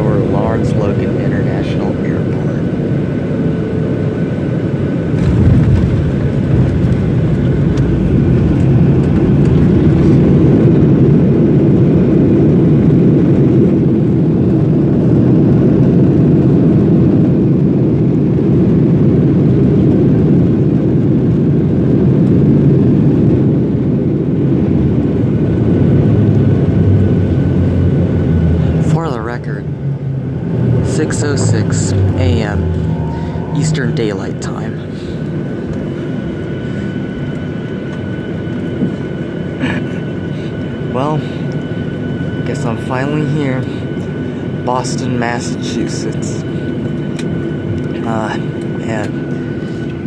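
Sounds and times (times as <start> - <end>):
jet engines and runway rumble: 0.0 - 50.0.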